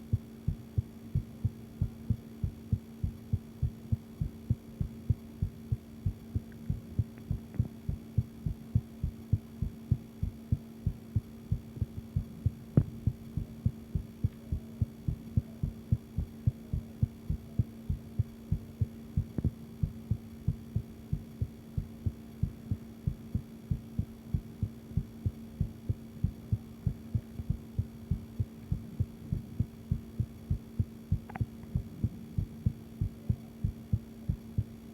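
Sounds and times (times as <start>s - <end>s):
heartbeat low thuds: 0.0s - 34.8s
faint steady hum: 0.0s - 34.9s.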